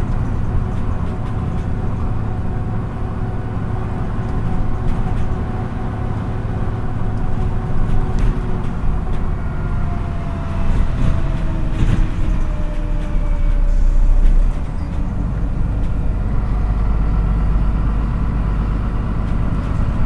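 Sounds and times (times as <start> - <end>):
diesel bus engine: 0.0 - 20.0
road and tyre noise: 0.0 - 20.0.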